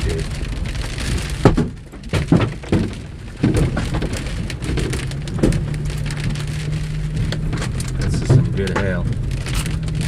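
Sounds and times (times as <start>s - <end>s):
hailstones pelting vehicle roof: 0.0s - 10.0s.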